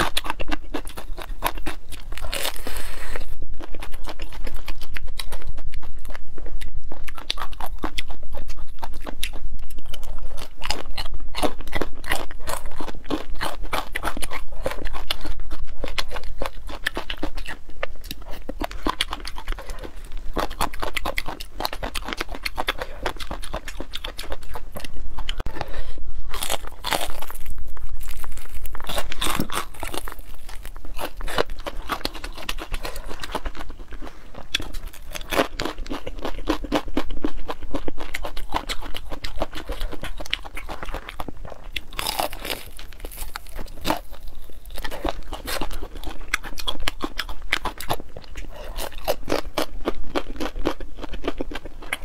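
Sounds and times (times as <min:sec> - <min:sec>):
crunchy chewing of fried food: 0:00.0 - 0:52.0.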